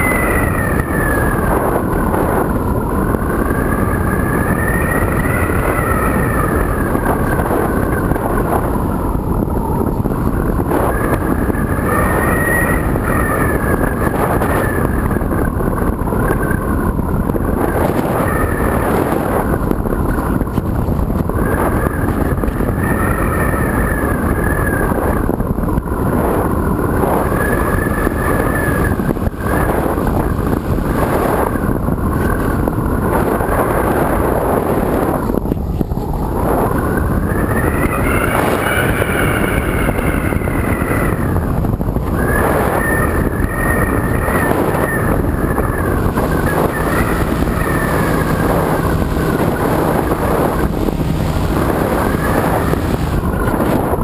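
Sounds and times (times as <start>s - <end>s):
electric motor and propeller buzz: 0.0s - 54.0s
wind rush: 0.0s - 54.0s.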